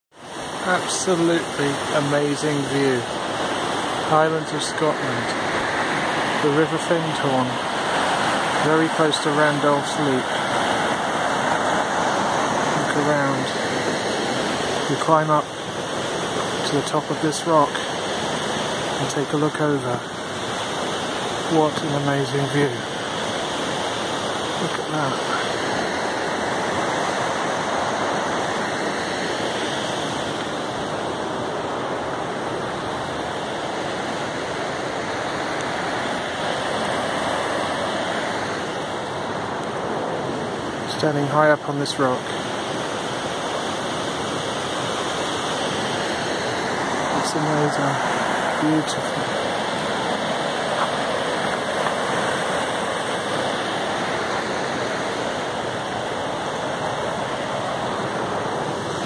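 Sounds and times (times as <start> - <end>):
river rushing over rocks: 0.2 - 59.0.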